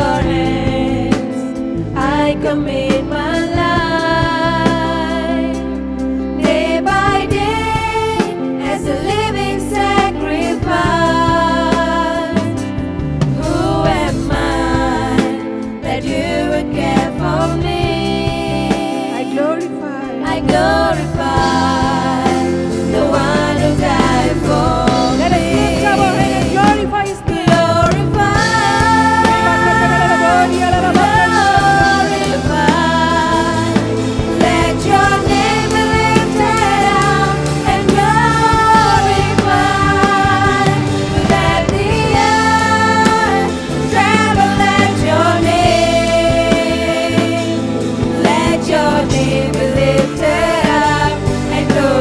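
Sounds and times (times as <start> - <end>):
band playing held chords: 0.0 - 52.0
instrumental accompaniment with beat: 0.0 - 52.0
person singing worship song: 0.0 - 52.0.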